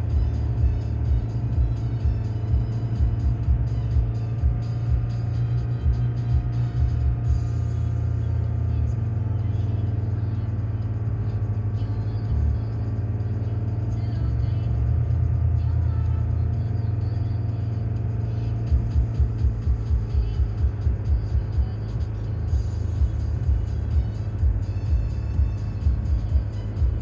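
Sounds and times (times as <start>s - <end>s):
car engine under load: 0.0s - 27.0s.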